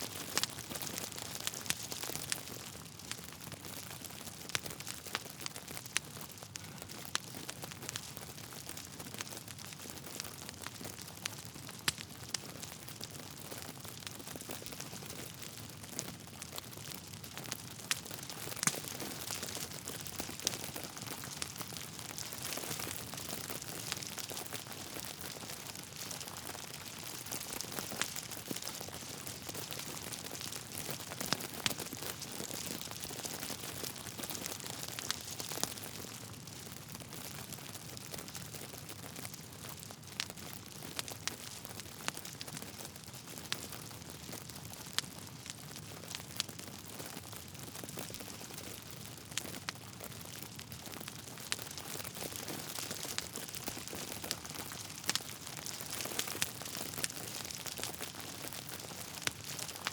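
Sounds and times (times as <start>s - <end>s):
fire popping: 0.0s - 59.9s
log fire crackling: 0.0s - 59.9s.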